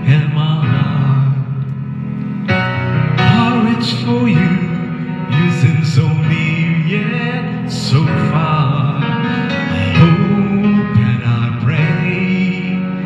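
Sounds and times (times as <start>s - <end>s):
man singing into microphone: 0.0s - 1.8s, 3.2s - 13.0s
backing music: 0.0s - 13.0s.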